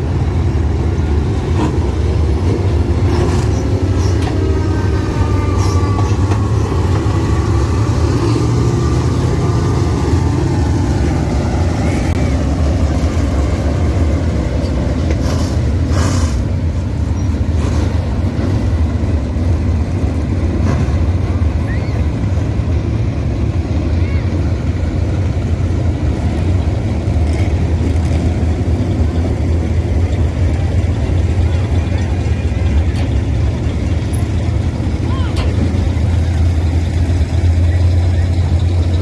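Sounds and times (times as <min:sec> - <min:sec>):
vehicle engine deep rumble: 0:00.0 - 0:39.0.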